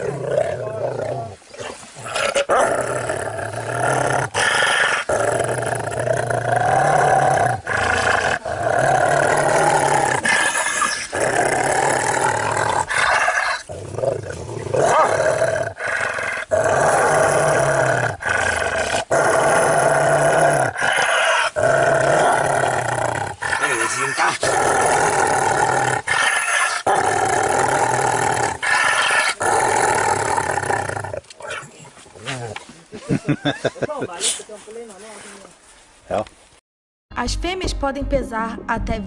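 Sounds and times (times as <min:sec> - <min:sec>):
large dog growling: 0:00.0 - 0:32.7.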